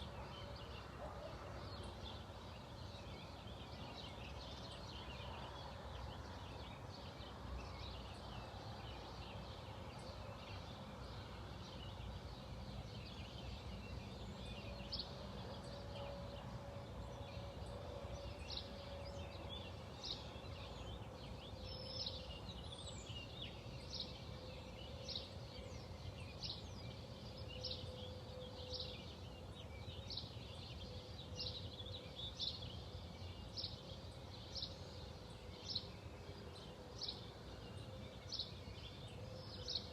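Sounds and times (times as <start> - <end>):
chorus of birds: 0.0 - 39.9.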